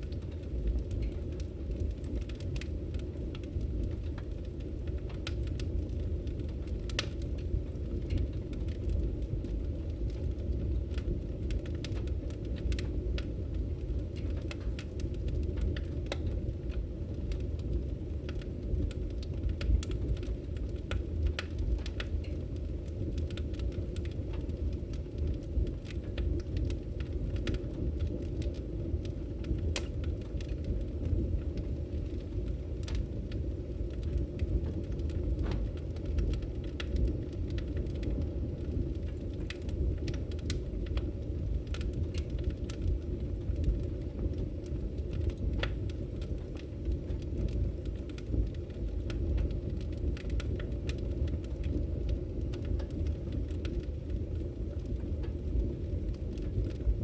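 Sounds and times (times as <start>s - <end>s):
low roar of flames: 0.0s - 57.0s
wood fire crackling and popping: 0.0s - 57.0s.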